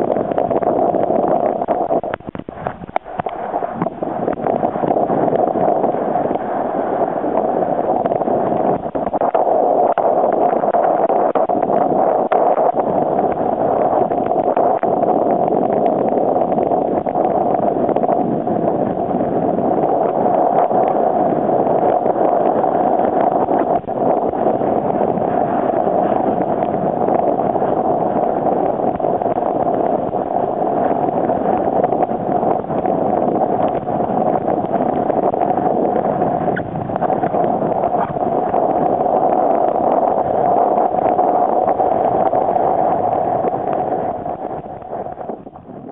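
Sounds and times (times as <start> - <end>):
water rushing: 0.0 - 45.9
wind rushing: 0.0 - 45.9.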